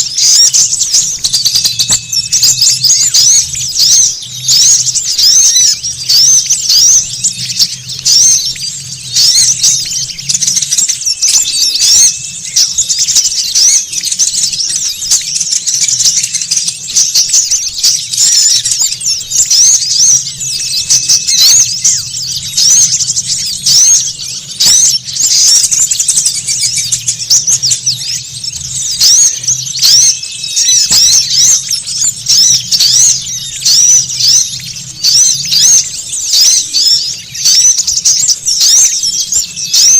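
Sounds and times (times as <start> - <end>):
flock of songbirds chirping: 0.0 - 39.9.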